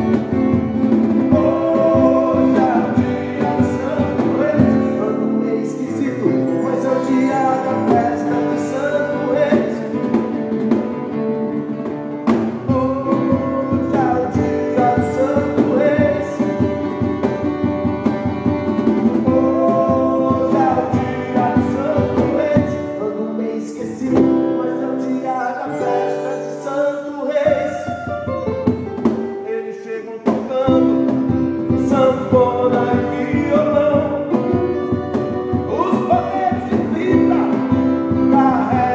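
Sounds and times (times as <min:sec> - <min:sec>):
person singing: 0:00.0 - 0:11.4, 0:12.1 - 0:17.7, 0:18.3 - 0:28.8, 0:29.4 - 0:38.9
pop rock song with guitar: 0:00.0 - 0:38.9.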